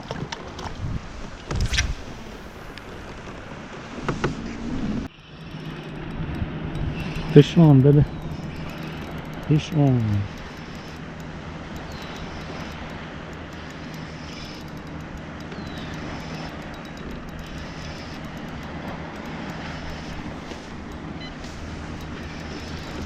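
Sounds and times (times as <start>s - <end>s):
low mechanical drone: 1.5s - 23.0s.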